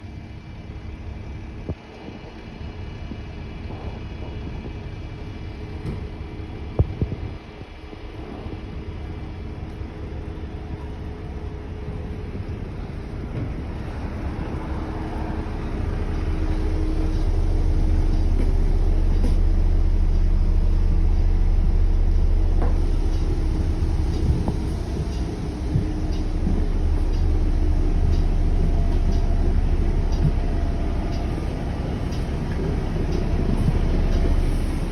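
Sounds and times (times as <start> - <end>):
bus diesel engine rumbling: 0.0 - 34.9.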